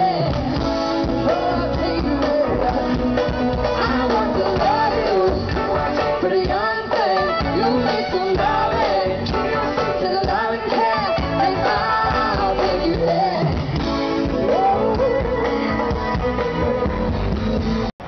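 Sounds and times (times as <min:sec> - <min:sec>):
person singing: 0:00.0 - 0:17.2
guitar: 0:00.0 - 0:18.0
steady backing music: 0:00.0 - 0:18.0.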